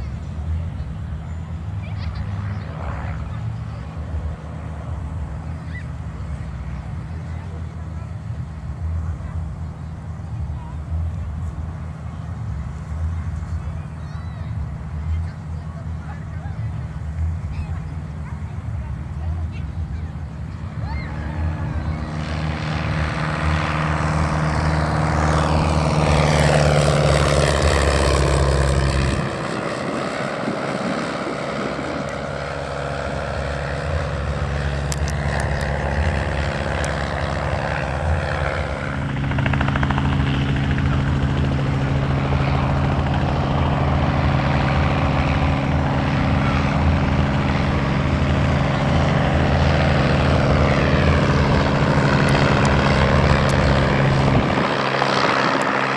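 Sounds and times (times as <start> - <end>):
propeller plane engine: 0.0 - 55.9.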